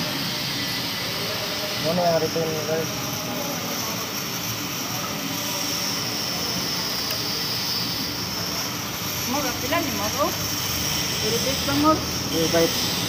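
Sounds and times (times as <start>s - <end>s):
high steady whine: 0.0s - 13.0s
mechanical hiss and hum: 0.0s - 13.0s.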